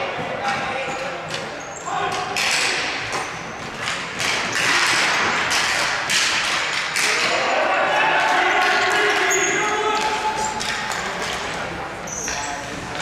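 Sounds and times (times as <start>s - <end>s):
hockey sticks and ball knocking: 0.0s - 7.5s, 8.2s - 13.0s.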